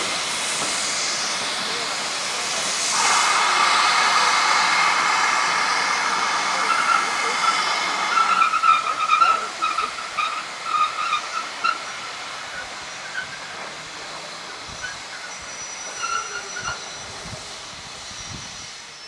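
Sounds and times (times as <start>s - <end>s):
steam hissing: 0.0s - 19.0s
train wheels squealing: 3.0s - 17.4s, 18.0s - 19.0s.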